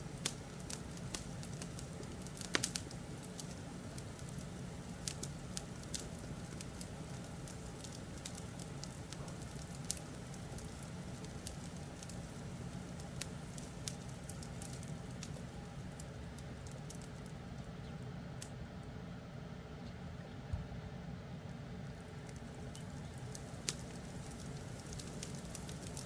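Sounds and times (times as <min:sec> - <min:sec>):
fireplace crackling and popping: 0:00.0 - 0:18.6, 0:21.5 - 0:26.0
low fire rumble: 0:00.0 - 0:26.0.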